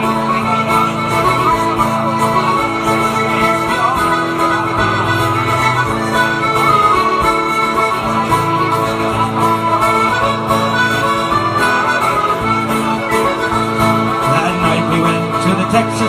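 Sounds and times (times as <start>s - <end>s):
reedy lead instrument melody: 0.0s - 16.0s
strummed acoustic guitar: 0.0s - 16.0s.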